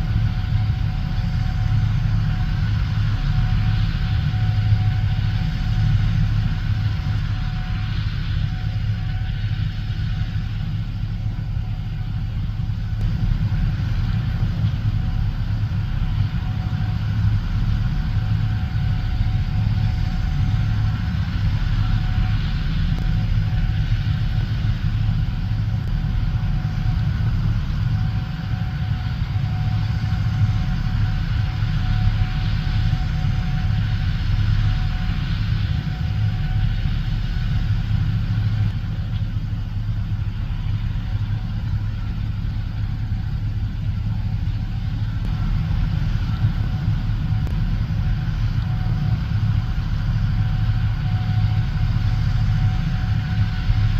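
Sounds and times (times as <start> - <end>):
faint machine whine: 0.0 - 53.9
farm machinery engine rumble: 0.0 - 53.9.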